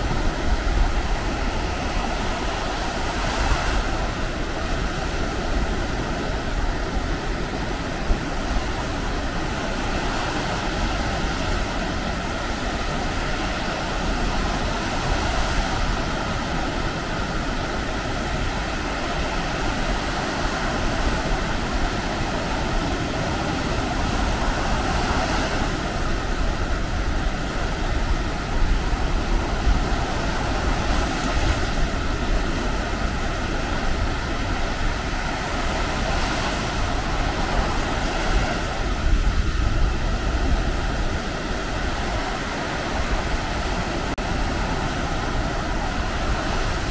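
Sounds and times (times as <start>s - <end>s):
surf washing onto beach: 0.0s - 46.9s
wind rumbling on microphone: 0.0s - 46.9s.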